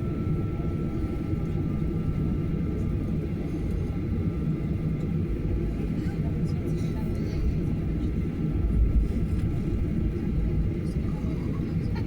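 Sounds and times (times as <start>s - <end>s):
jet engines and airflow rumble: 0.0s - 12.0s.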